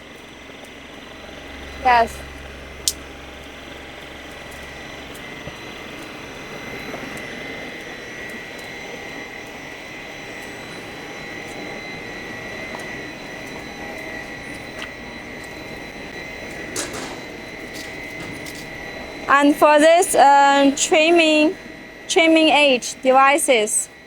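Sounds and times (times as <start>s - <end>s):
factory machinery noise: 0.0s - 24.0s
high whine: 0.0s - 24.0s
low hum: 0.0s - 24.0s.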